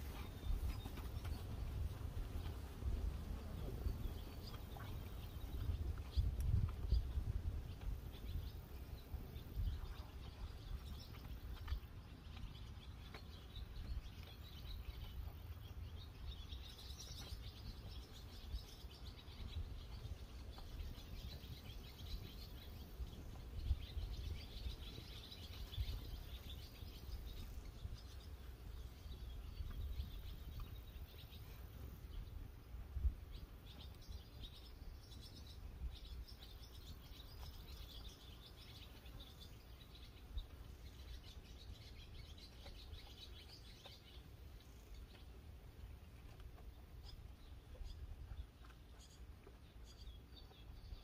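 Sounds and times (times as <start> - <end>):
birds chirping and singing: 0.0 - 51.0.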